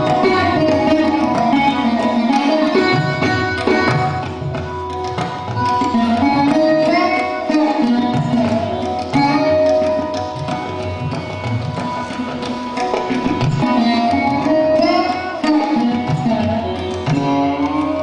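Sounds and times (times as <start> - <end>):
plucked sarod notes: 0.0 - 18.0
tabla rhythm: 0.0 - 18.0.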